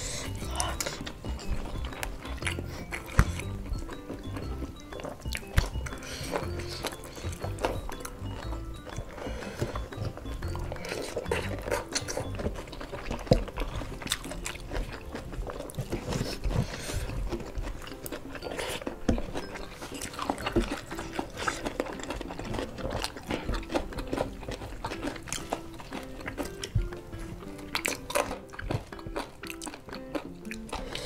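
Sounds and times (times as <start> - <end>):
chewing and mouth smacks: 0.0 - 31.0
fingers picking at food: 0.0 - 31.0
quiet background music: 0.0 - 31.0.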